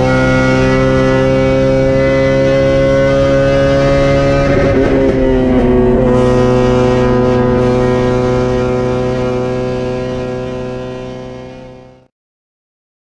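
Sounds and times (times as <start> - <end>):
race car engine droning: 0.0 - 12.1.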